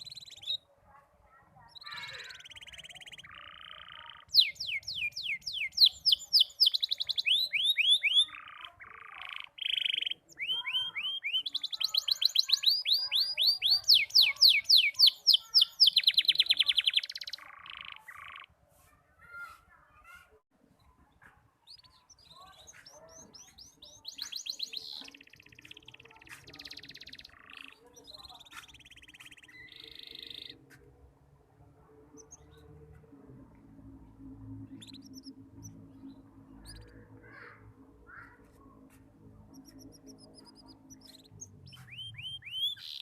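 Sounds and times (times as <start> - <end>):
canary trilling song: 0.0 - 18.6, 20.8 - 43.0.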